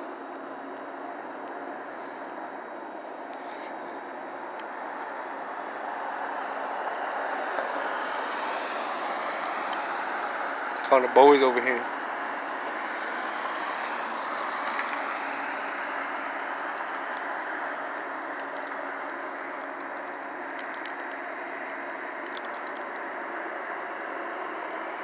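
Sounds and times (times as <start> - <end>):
vehicle rumble and hiss: 0.0 - 25.0.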